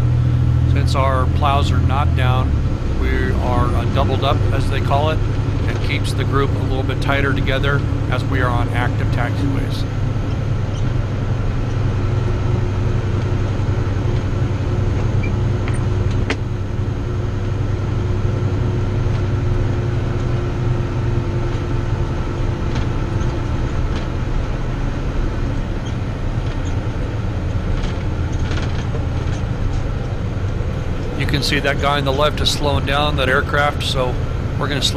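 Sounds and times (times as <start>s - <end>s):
truck engine low drone: 0.0s - 34.9s.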